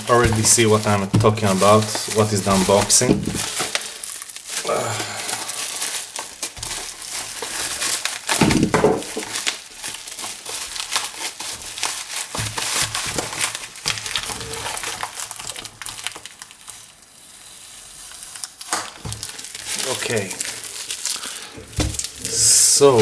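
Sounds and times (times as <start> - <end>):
packaging crinkling: 0.0 - 23.0.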